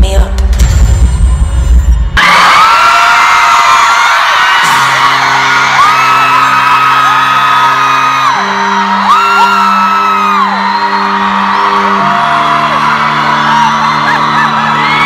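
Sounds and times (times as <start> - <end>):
amplified live concert music: 0.0 - 15.0
fans screaming and whooping: 2.2 - 15.0.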